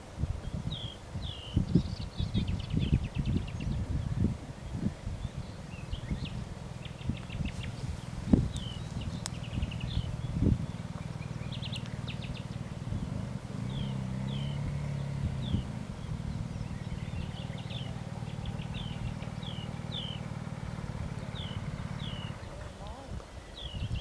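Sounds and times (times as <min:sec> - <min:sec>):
low engine rumble: 0:00.0 - 0:24.0
small birds chirping: 0:00.0 - 0:24.0.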